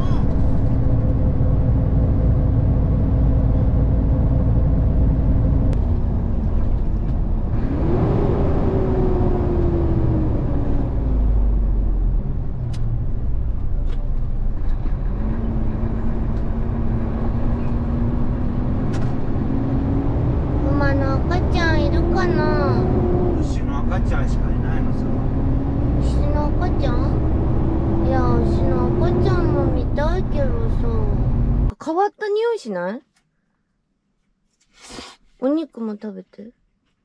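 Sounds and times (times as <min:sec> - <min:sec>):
truck diesel engine drone: 0:00.0 - 0:31.7.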